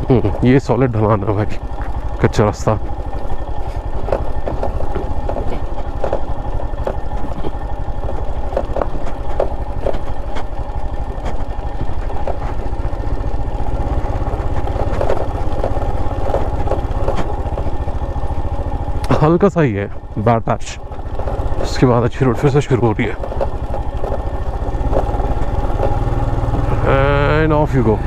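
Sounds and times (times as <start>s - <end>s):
motorcycle engine at low revs: 0.0s - 28.0s
motorcycle rattling over stones: 0.0s - 28.0s.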